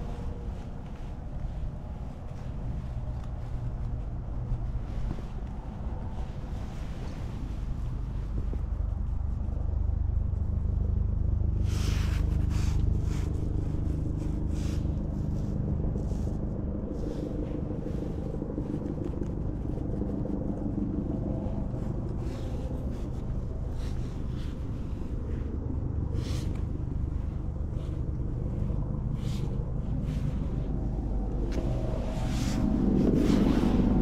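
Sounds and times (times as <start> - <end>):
engine running steadily: 0.0 - 34.0
rustling or scraping noises: 0.0 - 34.0.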